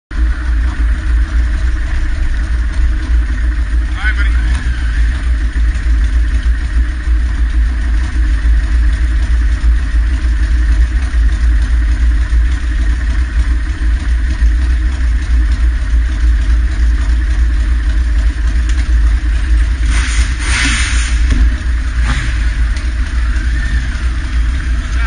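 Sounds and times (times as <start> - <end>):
motorcycle engine idling: 0.1 - 25.0.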